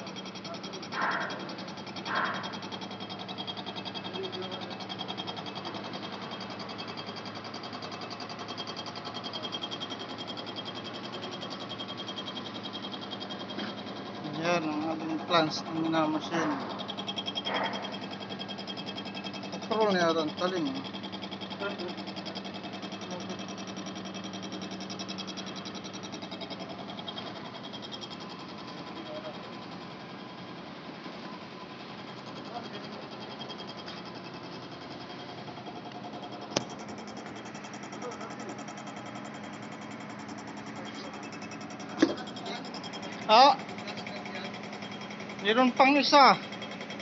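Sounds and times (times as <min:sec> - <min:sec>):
milling machine humming: 0:00.0 - 0:47.0.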